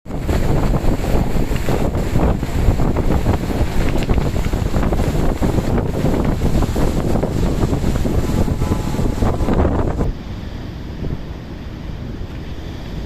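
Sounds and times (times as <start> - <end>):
storm wind buffeting microphone: 0.0 - 13.0
high sea waves: 0.1 - 13.0.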